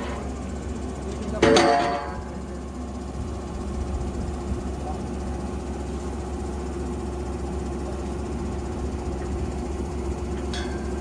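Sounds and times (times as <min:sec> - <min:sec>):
drilling machine engine hum: 0:00.0 - 0:11.0.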